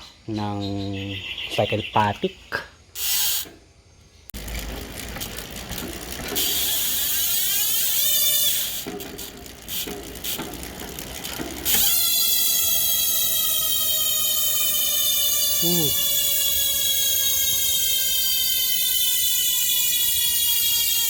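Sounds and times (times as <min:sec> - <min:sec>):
bicycle hub ratchet buzzing: 0:03.0 - 0:03.7, 0:04.3 - 0:21.0.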